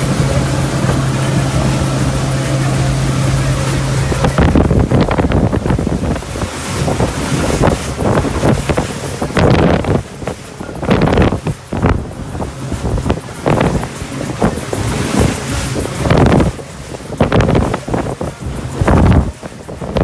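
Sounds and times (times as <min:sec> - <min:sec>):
boat engine running: 0:00.0 - 0:20.0
water noise: 0:00.0 - 0:20.0
wind buffeting microphone: 0:00.0 - 0:20.0.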